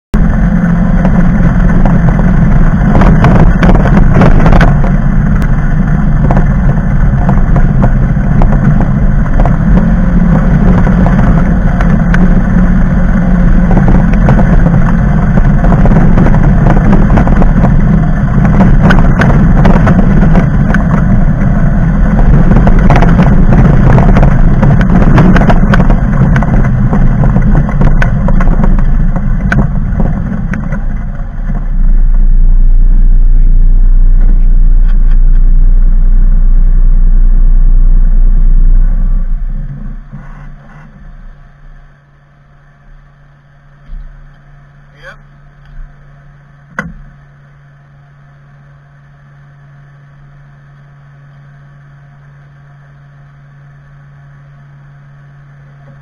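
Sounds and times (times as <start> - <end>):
engine droning: 0.1 - 56.0.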